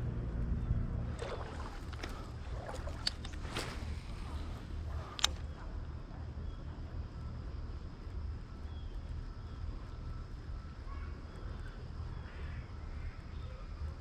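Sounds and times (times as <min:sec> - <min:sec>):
low uneven rumble: 0:00.0 - 0:14.0.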